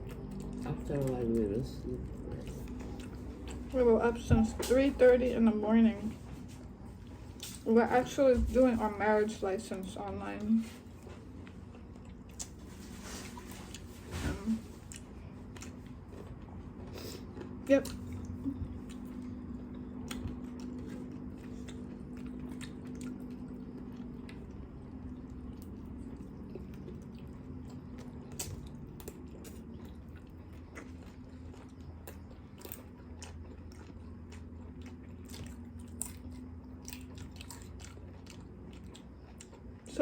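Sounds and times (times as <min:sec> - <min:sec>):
crunchy chewing of fried food: 0:00.0 - 0:40.0
steady low hum: 0:00.0 - 0:40.0.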